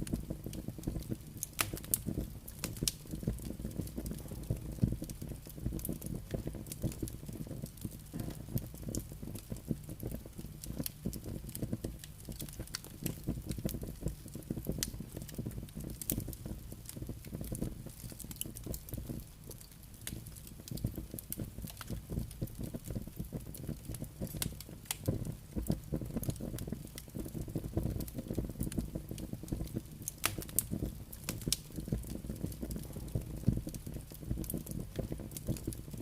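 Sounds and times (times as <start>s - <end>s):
burning wood crackling and popping: 0.0s - 36.0s
low rumble of flame: 0.0s - 36.0s.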